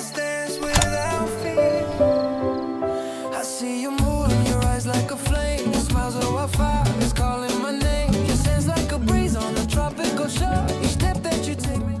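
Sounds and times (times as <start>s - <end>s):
pop music with drum beat: 0.0s - 1.6s, 3.8s - 12.0s.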